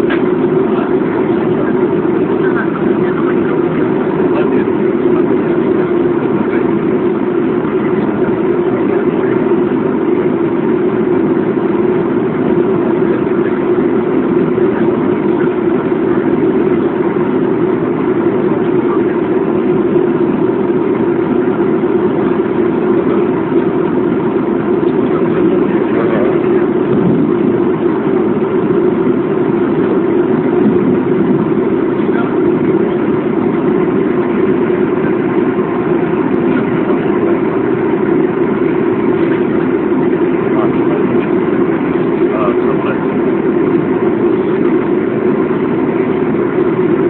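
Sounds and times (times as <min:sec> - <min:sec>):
airliner cabin drone: 0:00.0 - 0:47.0.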